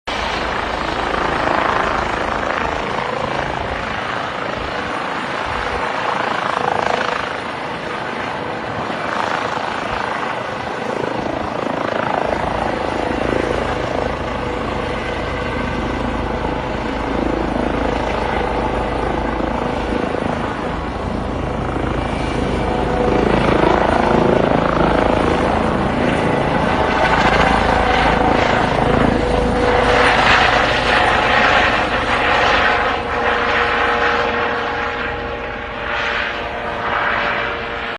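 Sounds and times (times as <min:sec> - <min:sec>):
helicopter rotor thrum: 0:00.1 - 0:37.8.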